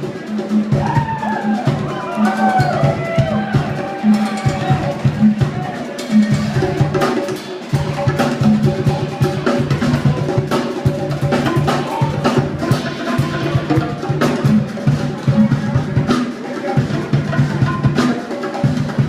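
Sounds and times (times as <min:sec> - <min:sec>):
drum kit hits and fills: 0:00.0 - 0:19.0.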